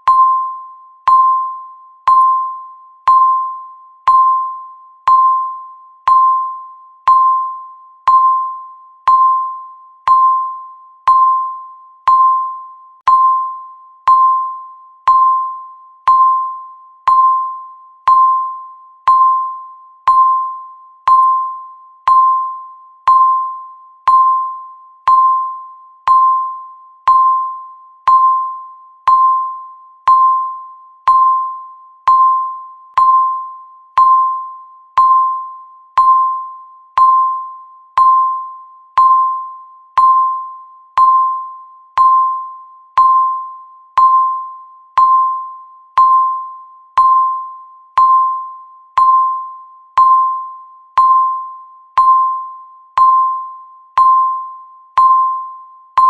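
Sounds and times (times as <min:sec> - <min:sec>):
timer ticking ping: 0:00.0 - 0:56.0.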